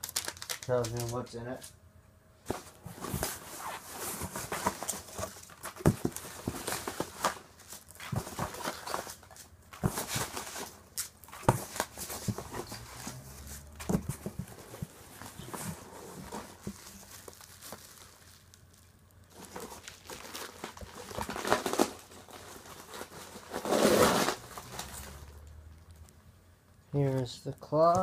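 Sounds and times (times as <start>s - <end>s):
packing peanuts and paper rustling: 0.0s - 1.7s, 2.5s - 26.1s.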